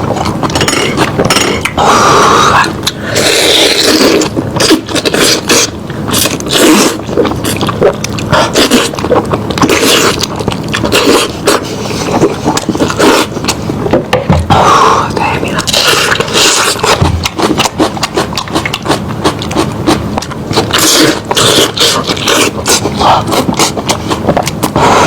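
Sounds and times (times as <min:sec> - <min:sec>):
meat being chewed and gnawed: 0:00.0 - 0:25.0.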